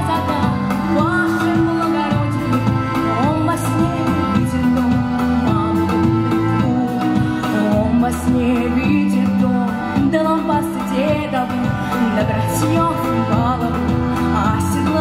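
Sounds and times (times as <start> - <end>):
instrumental backing track: 0.0 - 15.0
woman singing into a microphone: 0.0 - 15.0.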